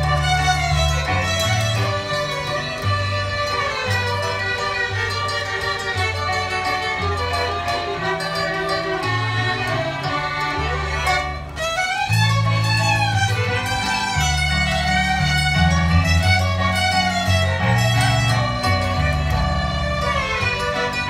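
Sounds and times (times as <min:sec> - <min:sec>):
fiddles playing a waltz: 0:00.0 - 0:21.0.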